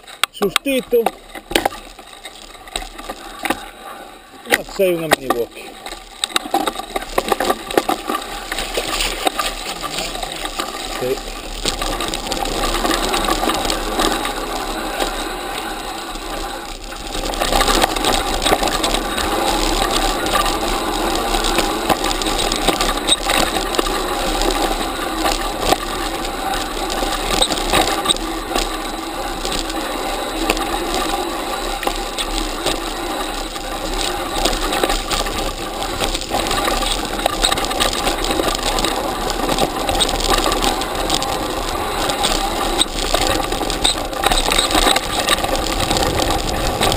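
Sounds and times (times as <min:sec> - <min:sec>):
mountain bike rattling on dirt trail: 0:00.0 - 0:46.9.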